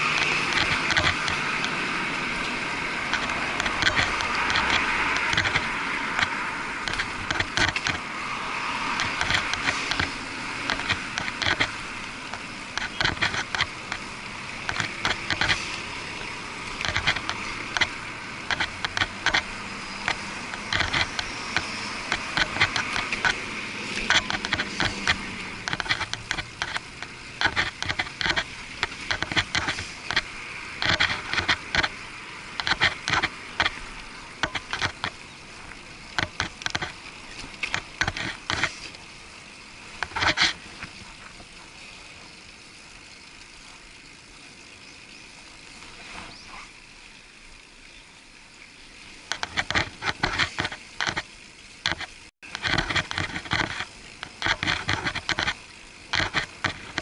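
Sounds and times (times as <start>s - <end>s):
muffled bicycle road noise: 0.0s - 57.0s.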